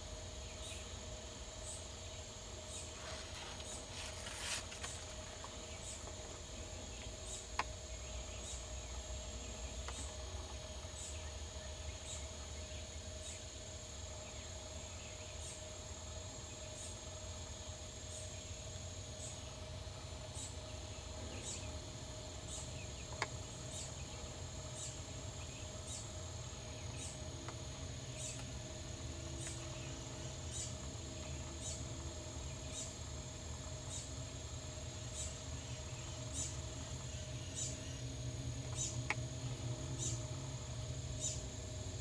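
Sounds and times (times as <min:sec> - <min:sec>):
insects trilling and chirping: 0:00.0 - 0:42.0.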